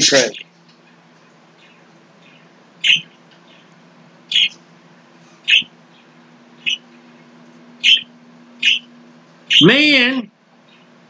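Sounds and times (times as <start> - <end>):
bird chirping: 0.0 - 4.6, 5.2 - 9.8, 10.6 - 11.0.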